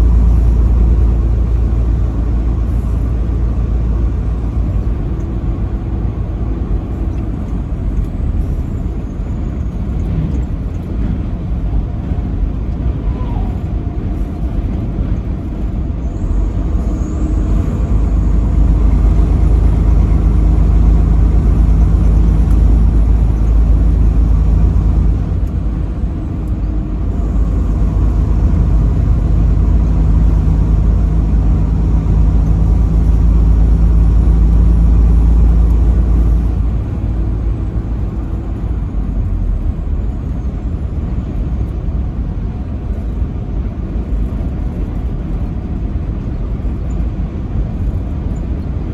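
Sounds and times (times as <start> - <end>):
truck engine and road rumble: 0.0 - 48.9.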